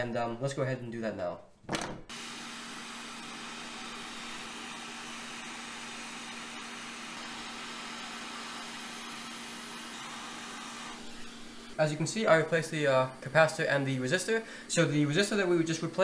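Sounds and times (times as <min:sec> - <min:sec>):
hot-air rework station hissing: 0:02.1 - 0:16.0.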